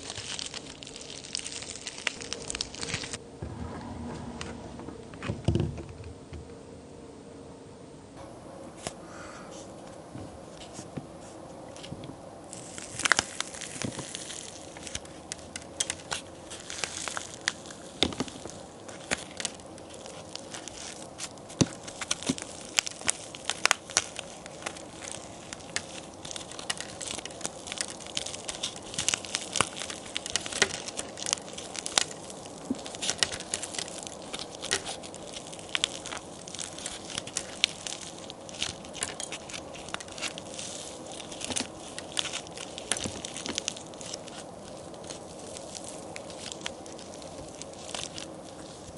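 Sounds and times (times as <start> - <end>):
clay cookies cracking and crumbling: 0.0 - 3.2, 10.5 - 48.9.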